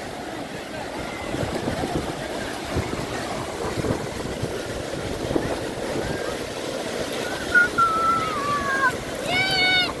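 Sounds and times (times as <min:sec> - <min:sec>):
wind buffeting microphone: 0:00.0 - 0:09.2
sea surf: 0:00.0 - 0:10.0.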